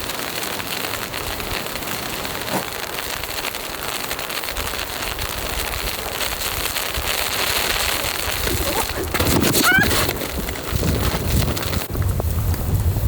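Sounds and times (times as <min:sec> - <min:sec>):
snow pellets ticking: 0:00.0 - 0:13.0
snowstorm wind: 0:00.0 - 0:13.0.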